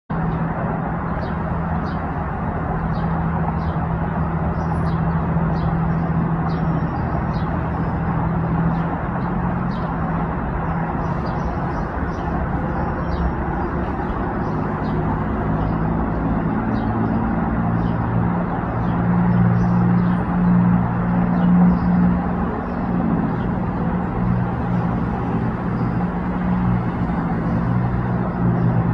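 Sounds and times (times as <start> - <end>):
engine drone: 0.1 - 28.9
small birds chirping: 0.1 - 28.9.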